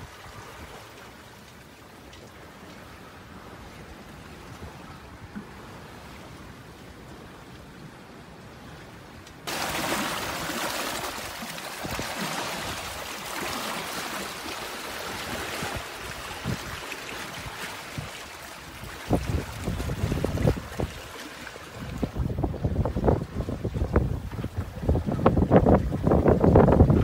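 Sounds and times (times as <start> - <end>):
water rushing along boat hull: 0.0 - 27.0.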